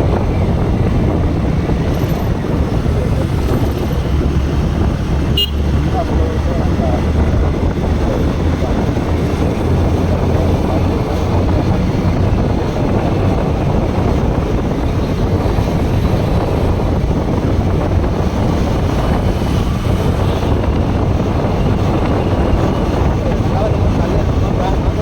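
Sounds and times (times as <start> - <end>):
motorcycle engine: 0.0 - 25.0
wind on microphone: 0.0 - 25.0.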